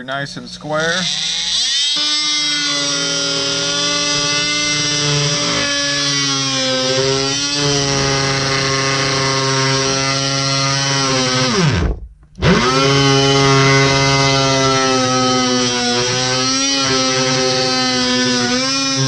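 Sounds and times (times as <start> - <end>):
oscillating multi-tool whining: 0.7 - 19.0.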